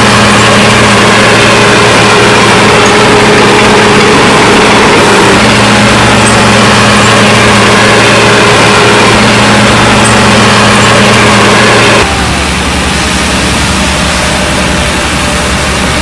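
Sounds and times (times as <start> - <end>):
diesel engine running loudly: 0.0 - 16.0.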